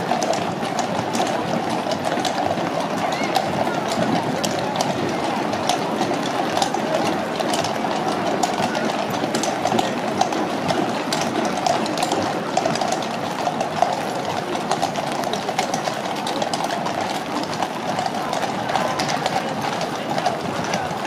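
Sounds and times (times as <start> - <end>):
carriage wheels rumbling: 0.0 - 21.0
hooves clip-clopping on wet road: 0.0 - 21.0.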